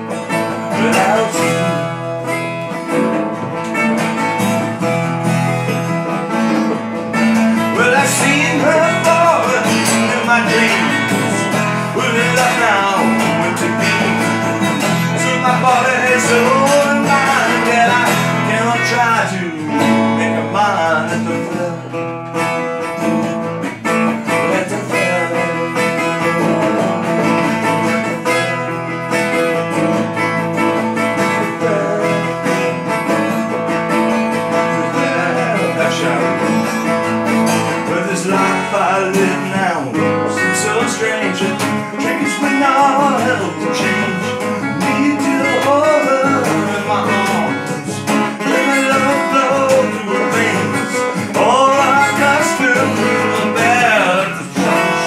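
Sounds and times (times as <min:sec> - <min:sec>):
acoustic guitar: 0:00.0 - 0:55.0
man singing: 0:00.0 - 0:55.0
resonator guitar: 0:00.0 - 0:55.0.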